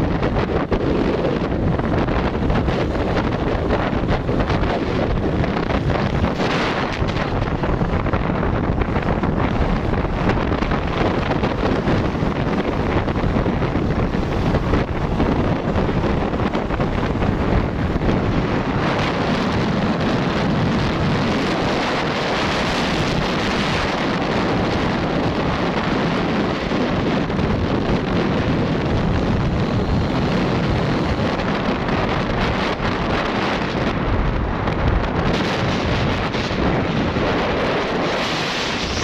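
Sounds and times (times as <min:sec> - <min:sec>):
engine and road rumble: 0:00.0 - 0:39.0
wind buffeting microphone: 0:00.0 - 0:39.0.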